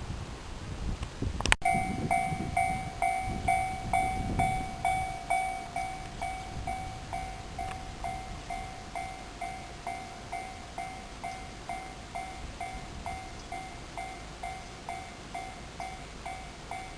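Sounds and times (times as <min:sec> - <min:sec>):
level-crossing warning bell: 0:01.6 - 0:16.9.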